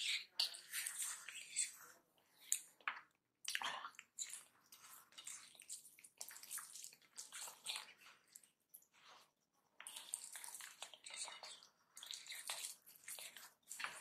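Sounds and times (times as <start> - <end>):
fingers squishing wet rice: 0.0 - 14.0.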